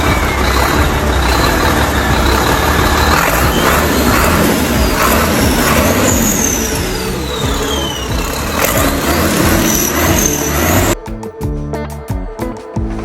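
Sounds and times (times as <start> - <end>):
diesel truck engine running: 0.0 - 11.0
high whistle sliding down: 0.0 - 11.0.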